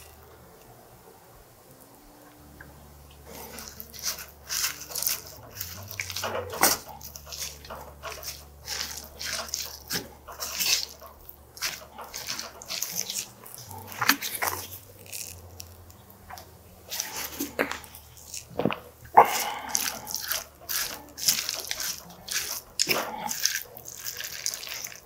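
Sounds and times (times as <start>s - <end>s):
spoon stirring food in metal bowl: 3.1s - 25.0s.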